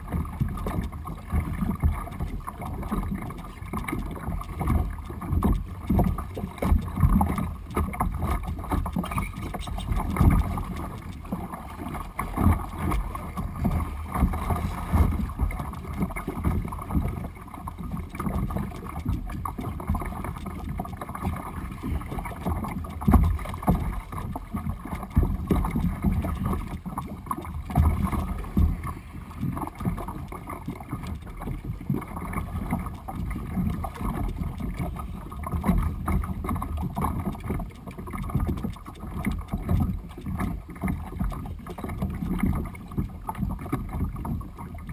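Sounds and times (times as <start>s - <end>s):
water splashing against kayak: 0.0s - 44.9s.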